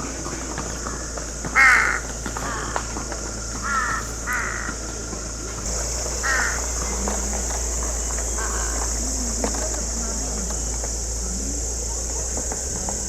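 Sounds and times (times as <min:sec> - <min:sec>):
crow cawing: 0:00.0 - 0:12.3
steady high hiss: 0:00.0 - 0:13.0.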